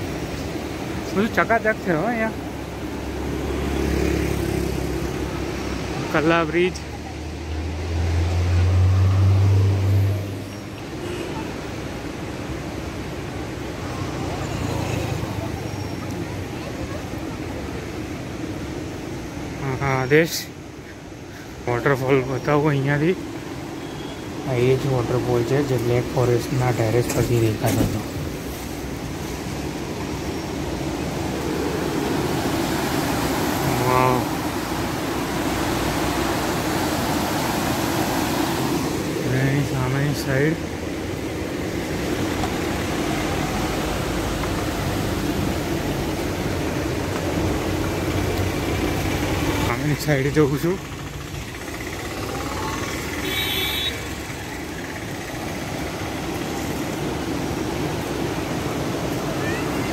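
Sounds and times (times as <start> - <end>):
water rushing over boulders: 0.0 - 59.9.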